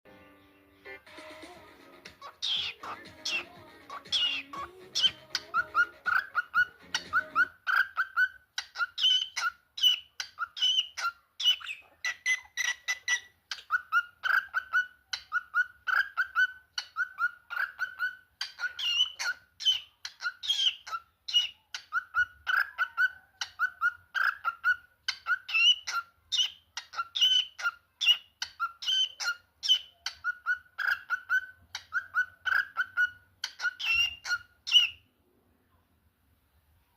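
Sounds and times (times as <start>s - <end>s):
cockatiel chirping: 2.1s - 35.0s.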